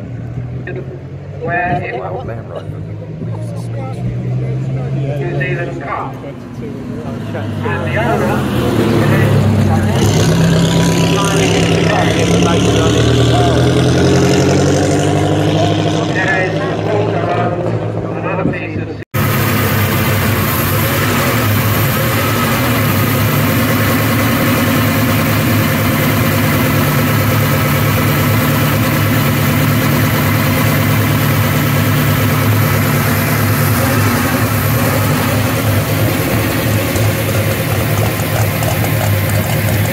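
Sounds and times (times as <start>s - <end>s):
car engine idling: 0.0s - 13.8s, 19.2s - 39.9s.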